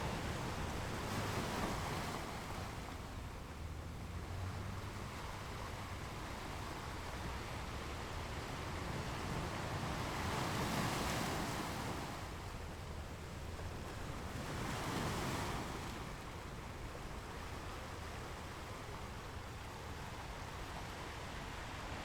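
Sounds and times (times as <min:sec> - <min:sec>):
waves breaking on a beach: 0:00.0 - 0:22.0.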